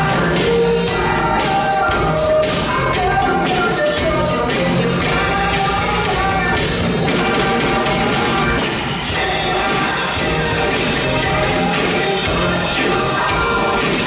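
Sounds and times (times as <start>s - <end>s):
live drum kit playing: 0.0s - 14.0s
recorded pop song with vocals: 0.0s - 14.0s.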